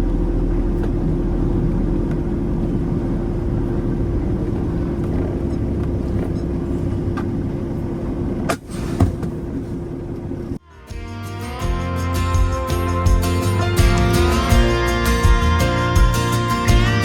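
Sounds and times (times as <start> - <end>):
road rumble: 0.0 - 17.0
truck engine drone: 0.0 - 17.0.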